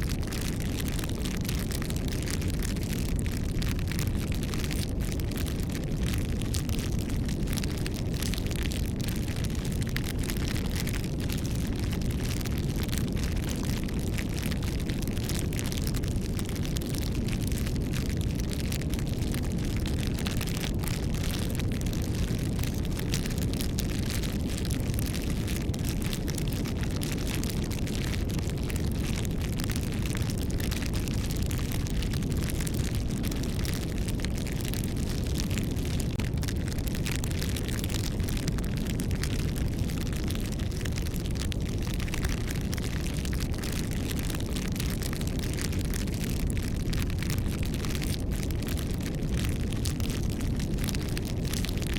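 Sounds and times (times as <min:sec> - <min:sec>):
bonfire crackling: 0:00.0 - 0:51.9.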